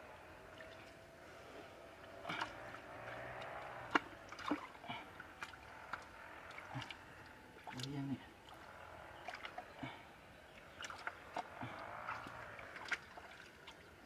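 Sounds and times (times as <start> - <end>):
muddy water squelching: 0.0 - 14.0.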